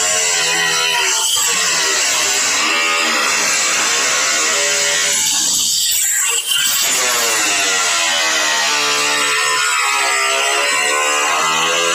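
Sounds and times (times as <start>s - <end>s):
angle grinder cutting sheet metal: 0.0s - 11.9s.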